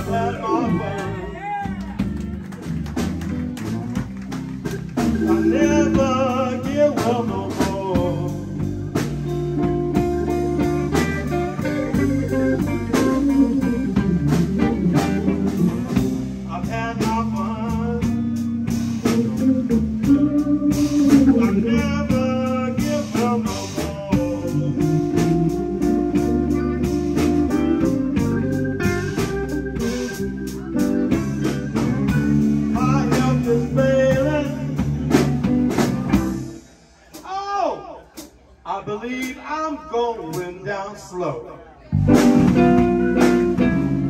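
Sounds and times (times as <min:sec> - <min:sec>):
electric guitars: 0:00.0 - 0:36.7, 0:41.9 - 0:44.0
drum kit: 0:00.0 - 0:39.5, 0:41.9 - 0:44.0
bass guitar: 0:00.0 - 0:40.6, 0:41.8 - 0:44.0.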